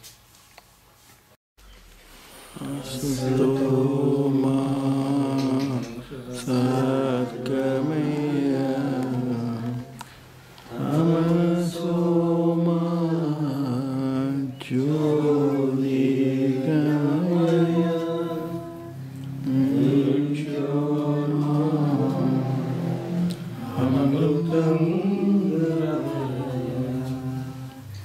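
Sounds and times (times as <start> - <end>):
group singing devotional song: 2.3 - 28.0.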